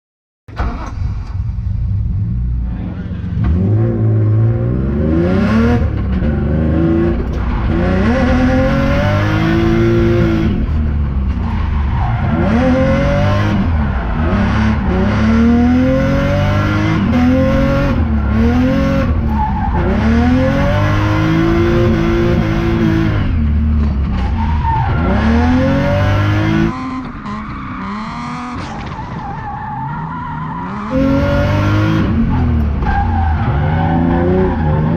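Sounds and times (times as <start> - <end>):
car engine revving: 0.5 - 34.9
tires squealing: 4.8 - 34.9.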